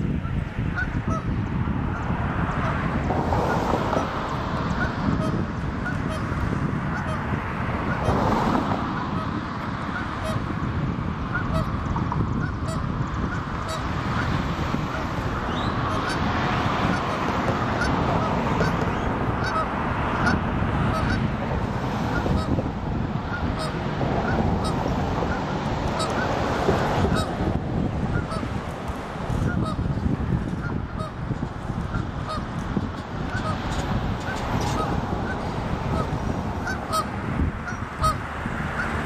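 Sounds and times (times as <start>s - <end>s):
geese honking: 0.2s - 1.3s, 2.6s - 10.5s, 11.3s - 11.8s, 12.4s - 21.3s, 22.0s - 27.4s, 28.1s - 28.5s, 29.4s - 29.9s, 30.6s - 31.3s, 31.9s - 39.0s.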